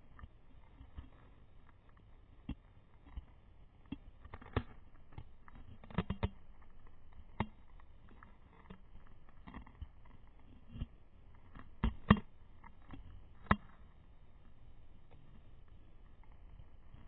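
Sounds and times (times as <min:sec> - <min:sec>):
dog gnawing a bone: 0:00.1 - 0:17.0.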